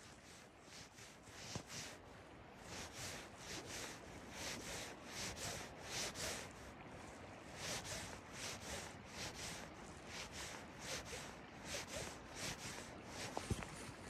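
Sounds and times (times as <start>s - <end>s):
river flowing: 0.0s - 14.0s
soft swishing rubs: 0.0s - 14.0s.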